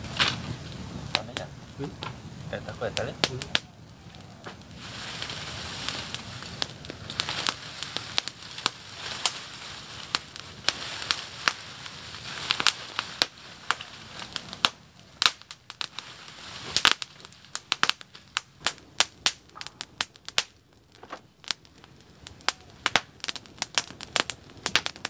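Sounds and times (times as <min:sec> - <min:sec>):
campfire crackling: 0:00.0 - 0:25.0
rush of flame: 0:00.0 - 0:25.0.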